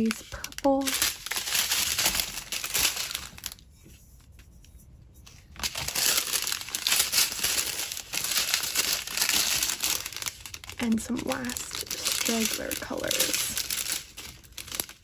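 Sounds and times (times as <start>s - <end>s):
plastic bags crinkling: 0.0s - 3.7s, 5.5s - 15.0s.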